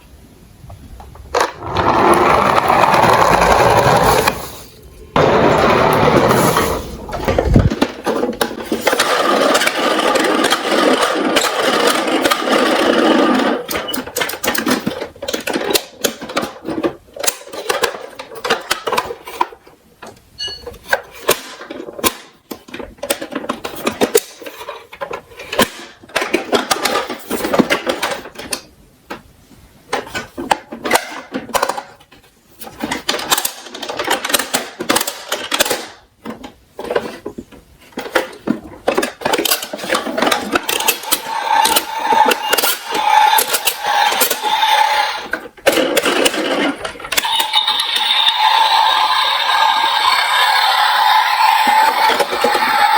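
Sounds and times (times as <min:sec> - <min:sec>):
toys clattering and knocking: 0:01.0 - 0:04.5, 0:05.2 - 0:29.3, 0:29.9 - 0:52.9
plastic toys rolling and rattling: 0:01.1 - 0:29.2, 0:29.9 - 0:52.9.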